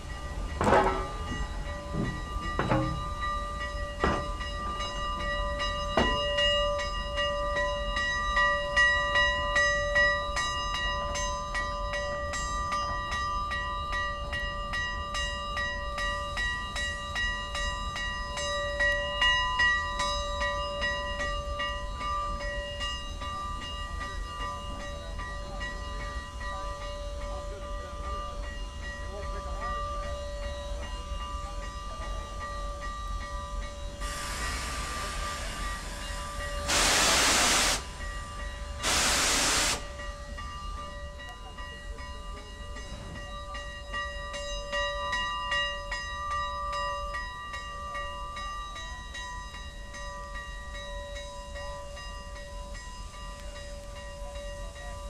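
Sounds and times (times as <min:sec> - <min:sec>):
steam locomotive bell ringing: 0:00.0 - 0:55.0.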